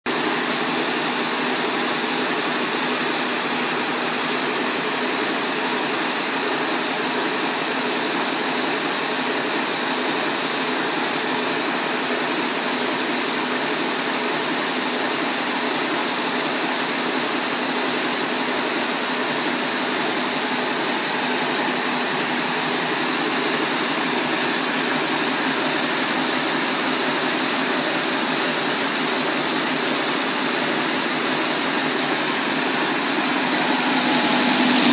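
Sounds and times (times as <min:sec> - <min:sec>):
braiding machines running: 0:00.1 - 0:34.9.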